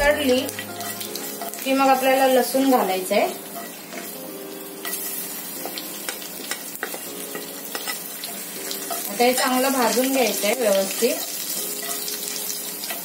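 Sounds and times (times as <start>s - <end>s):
seeds spluttering in hot oil: 0.0s - 13.0s.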